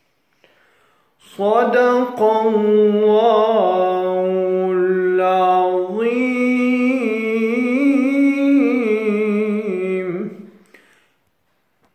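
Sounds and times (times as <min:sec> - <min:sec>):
man reciting melodically: 0:01.2 - 0:10.7.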